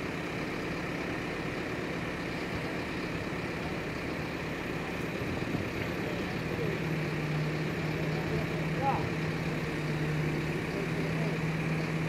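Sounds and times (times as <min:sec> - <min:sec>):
crane engine humming: 0:00.0 - 0:12.0.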